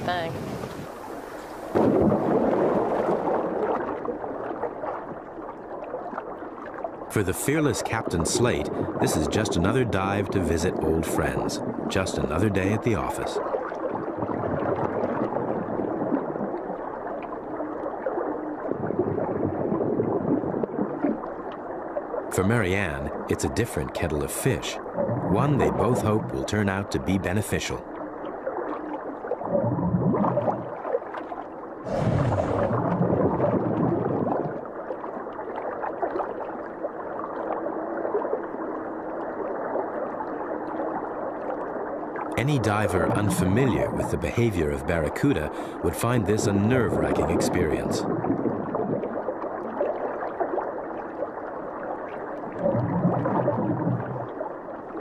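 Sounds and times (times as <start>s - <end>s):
underwater bubbling: 0.0s - 55.0s.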